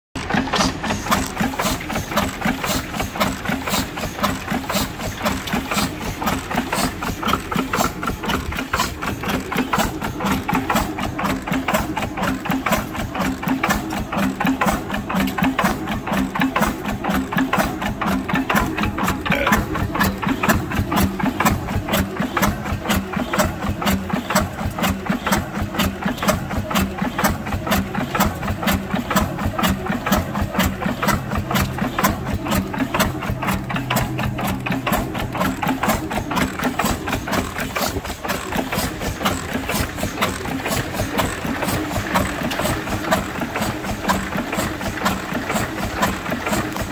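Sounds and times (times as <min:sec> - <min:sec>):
stationary engine knocking: 0:00.1 - 0:46.9.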